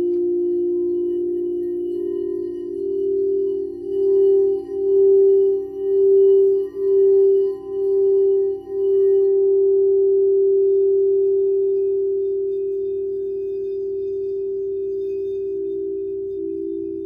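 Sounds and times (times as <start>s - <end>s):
lower pulsing singing bowl tone: 0.0s - 17.0s
singing bowl ringing tone: 0.0s - 17.0s.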